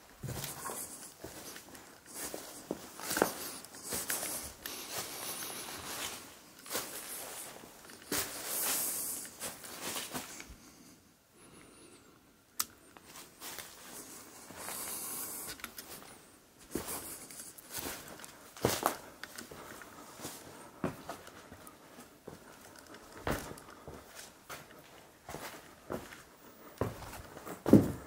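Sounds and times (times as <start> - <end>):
footsteps in tunnel: 0.0 - 10.4, 13.1 - 28.0.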